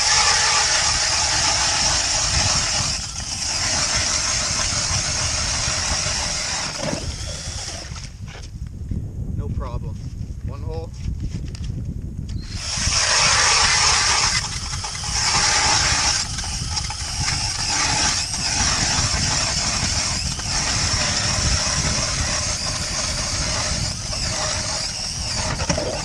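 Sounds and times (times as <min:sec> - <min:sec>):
cordless drill motor whine: 0:00.0 - 0:08.2, 0:12.3 - 0:26.0
ice auger boring through ice: 0:00.0 - 0:08.2, 0:12.4 - 0:26.0.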